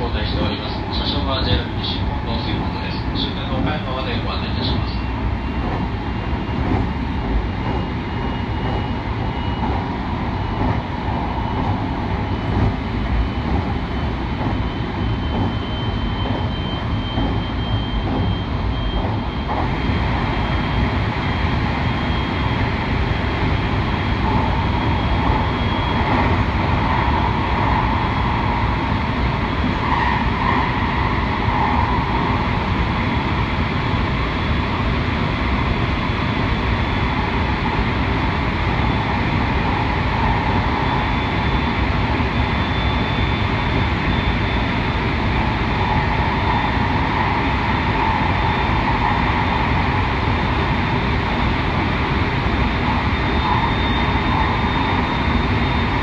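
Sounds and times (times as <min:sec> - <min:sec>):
faint high whine: 0:00.0 - 0:56.0
train wheels rumbling on rail: 0:00.0 - 0:56.0.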